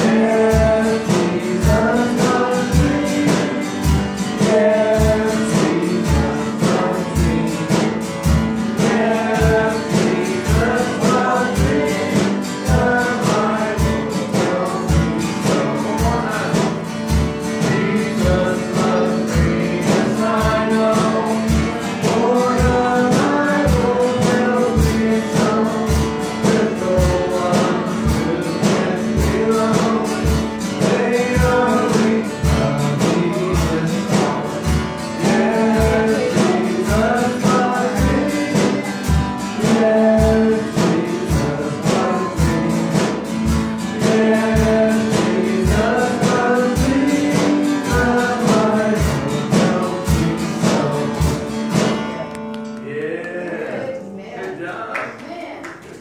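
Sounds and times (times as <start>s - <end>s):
steady thumping beat: 0.0s - 52.2s
guitar accompaniment: 0.0s - 56.0s.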